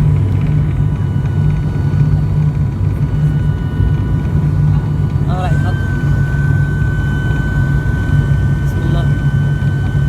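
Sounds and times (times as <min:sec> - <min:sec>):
turboprop cabin drone: 0:00.0 - 0:10.0.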